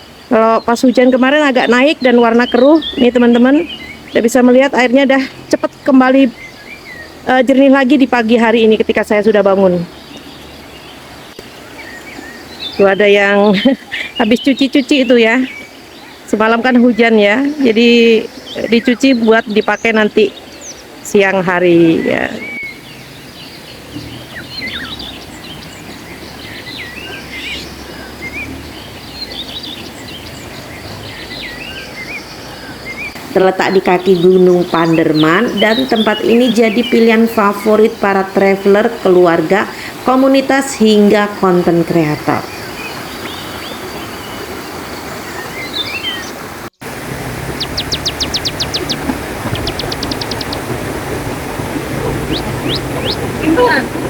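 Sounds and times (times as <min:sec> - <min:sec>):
birds chirping and twittering: 0:00.0 - 0:54.0
river flowing: 0:00.0 - 0:54.0.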